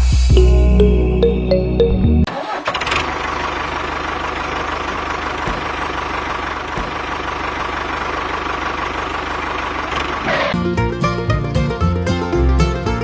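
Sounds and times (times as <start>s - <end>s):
small engine idling: 2.3s - 13.0s.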